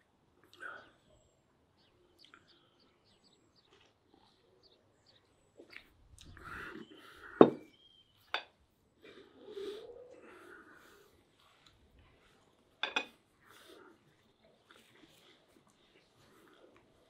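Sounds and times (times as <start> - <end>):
person eating and breathing: 1.8 - 7.8, 8.7 - 17.0.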